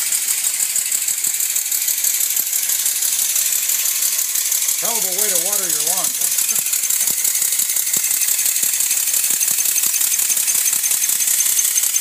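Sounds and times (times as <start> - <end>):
model steam engine rattling: 0.0 - 12.0
sharp mechanical clicks: 0.0 - 12.0.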